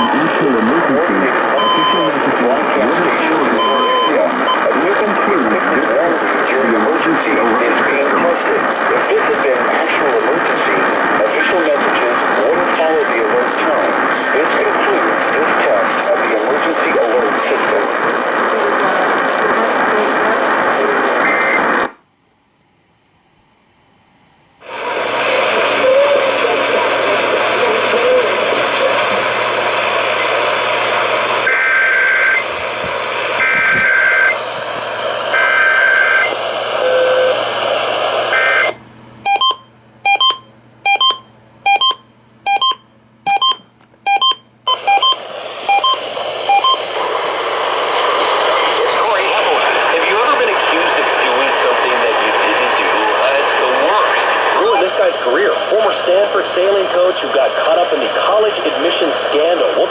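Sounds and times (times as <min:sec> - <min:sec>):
radio static hiss: 0:00.0 - 0:22.0, 0:24.6 - 0:38.8, 0:44.7 - 0:59.9.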